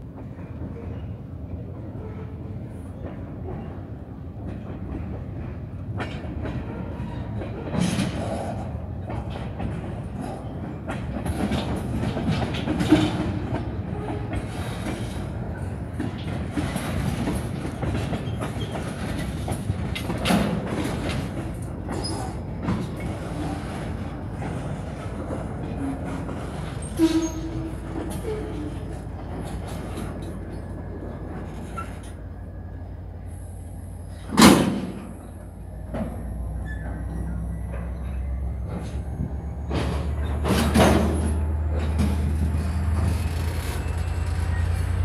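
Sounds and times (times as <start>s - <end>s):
railcar clanks and knocks: 0.0s - 45.0s
steel wheels rumbling on rail: 0.0s - 45.0s.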